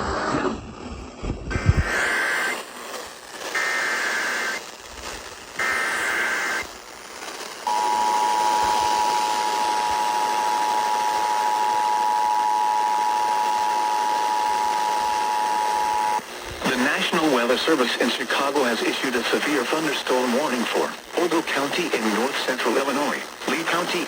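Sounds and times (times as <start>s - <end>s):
radio hiss: 0.0s - 24.0s.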